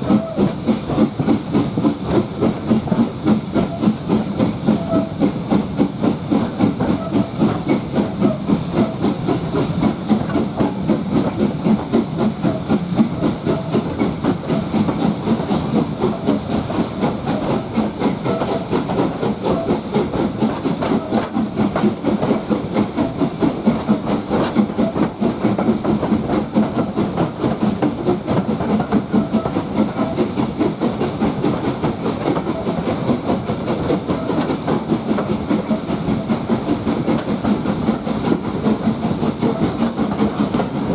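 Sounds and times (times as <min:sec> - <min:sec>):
steam hiss: 0:00.0 - 0:40.9
train rumbling with even beat: 0:00.0 - 0:40.9.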